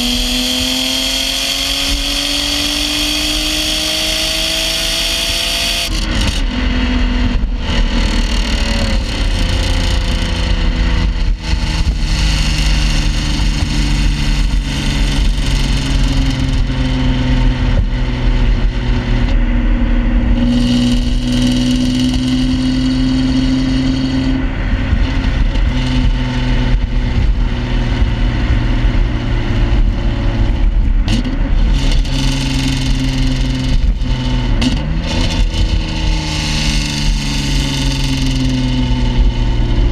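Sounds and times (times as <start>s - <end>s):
car engine running through exhaust: 0.0s - 39.9s.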